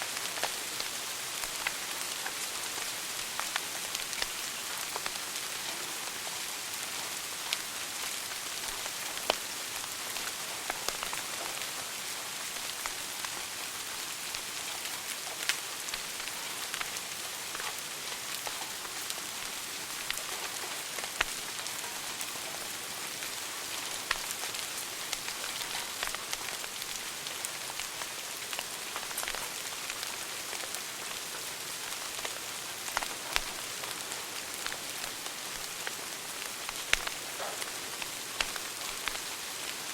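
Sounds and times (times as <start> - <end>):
wood fire crackling and popping: 0.1 - 11.8, 12.4 - 13.5, 14.3 - 39.9.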